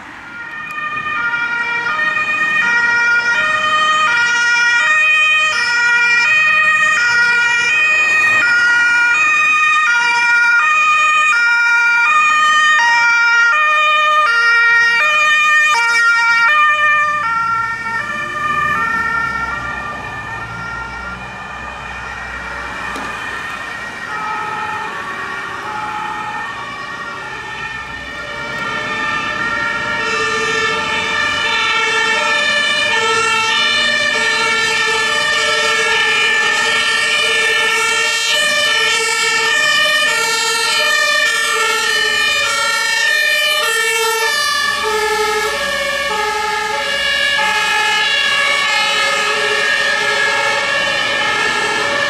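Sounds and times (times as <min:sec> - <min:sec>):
two-tone emergency siren: 0:00.0 - 0:52.0
vehicle engine and road noise: 0:00.0 - 0:52.0.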